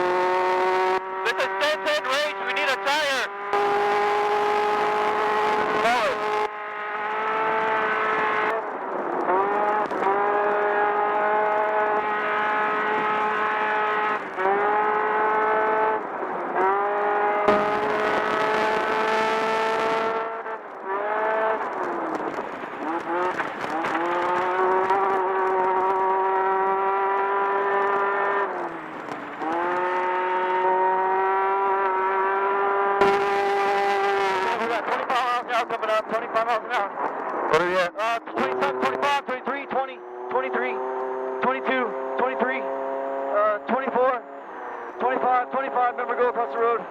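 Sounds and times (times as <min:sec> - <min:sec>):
buggy engine at high revs: 0:00.0 - 0:46.9.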